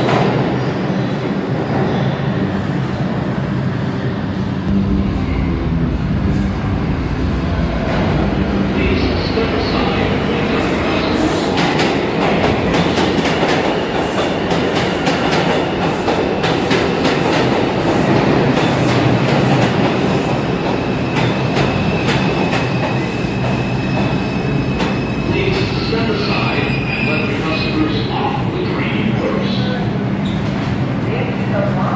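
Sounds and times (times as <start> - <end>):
subway train rumbling: 0.0 - 31.9.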